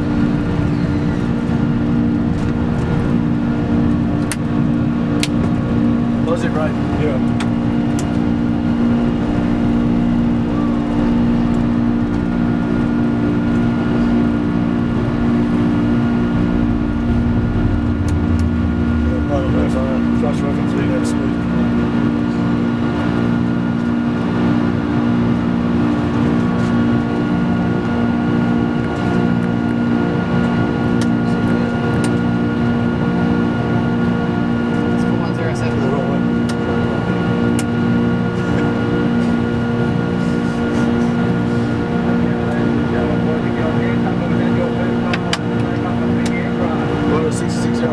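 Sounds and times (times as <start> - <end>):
airflow and engine rush: 0.0 - 47.9
constant low hum: 0.0 - 47.9.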